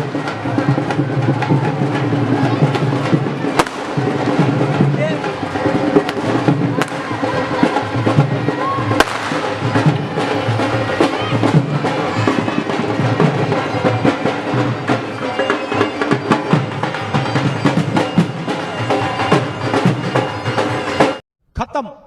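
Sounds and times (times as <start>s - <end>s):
voices: 0.0s - 21.0s
dhol drumming: 0.0s - 21.2s
band music: 0.0s - 22.0s.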